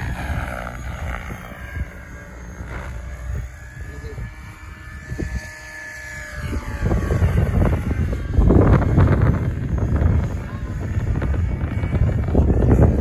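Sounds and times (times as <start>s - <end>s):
rc helicopter rotor whine: 0.0s - 13.0s
wind rushing on microphone: 0.0s - 13.0s.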